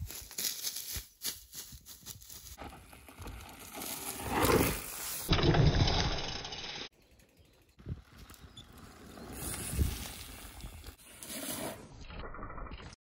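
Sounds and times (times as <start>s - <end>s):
bike tyres scrabbling on dirt: 0.0s - 12.0s.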